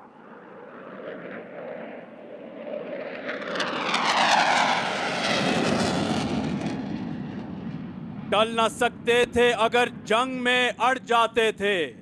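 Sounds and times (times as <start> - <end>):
fighter jet passing: 0.0 - 11.1.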